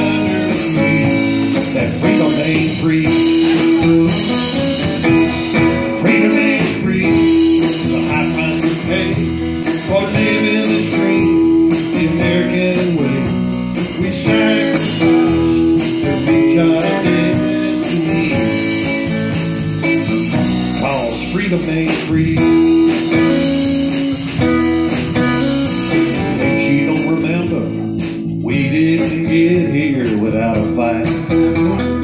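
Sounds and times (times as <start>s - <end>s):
drums: 0.0s - 32.0s
electric guitars: 0.0s - 32.0s.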